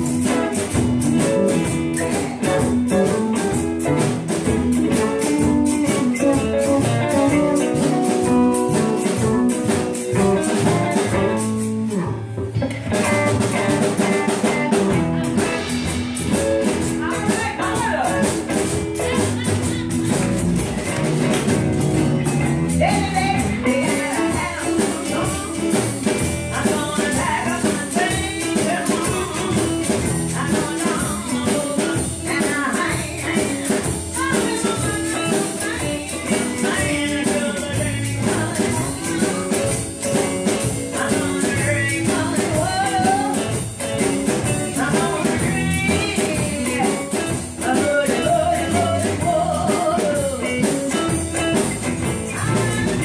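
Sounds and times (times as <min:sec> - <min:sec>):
woman singing: 0:00.0 - 0:15.9, 0:16.6 - 0:21.0, 0:22.1 - 0:53.0
drum kit: 0:00.0 - 0:53.0
electric and acoustic guitars: 0:00.0 - 0:53.0.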